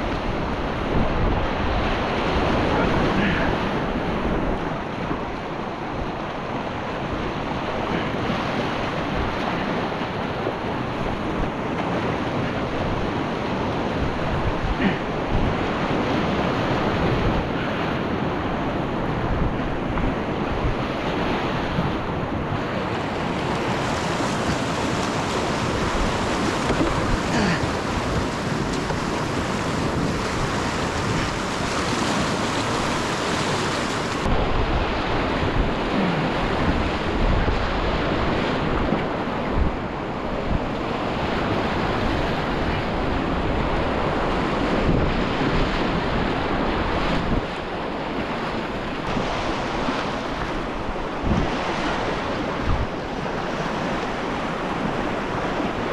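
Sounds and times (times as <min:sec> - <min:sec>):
rushing whitewater river: 0:00.0 - 0:55.9
wind buffeting microphone: 0:00.0 - 0:55.9.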